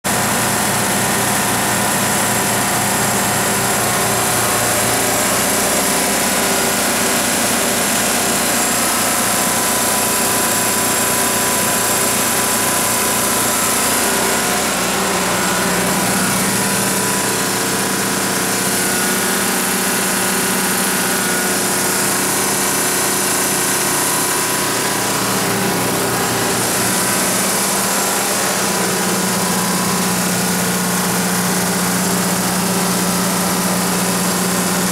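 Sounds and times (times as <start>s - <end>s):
diesel generator engine running: 0.1s - 34.9s.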